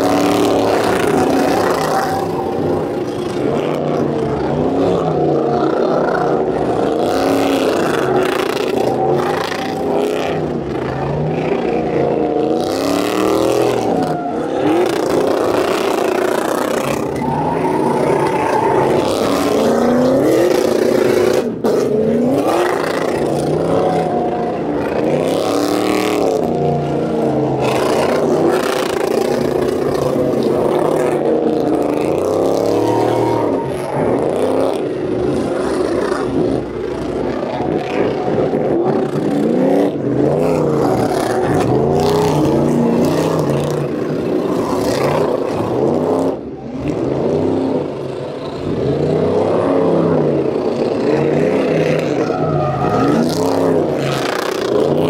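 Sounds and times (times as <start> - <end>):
tyres spinning on pavement: 0.0 - 46.0
truck engines revving hard: 0.0 - 55.0.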